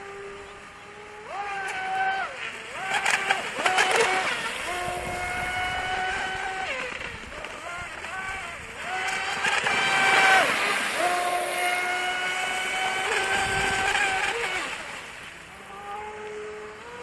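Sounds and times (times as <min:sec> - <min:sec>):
model boat motor whining: 0:00.0 - 0:17.0.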